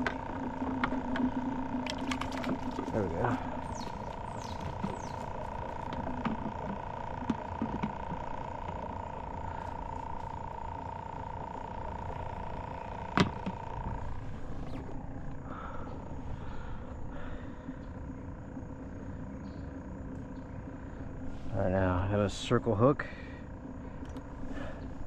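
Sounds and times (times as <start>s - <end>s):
high-pitched hum: 0.0s - 25.0s.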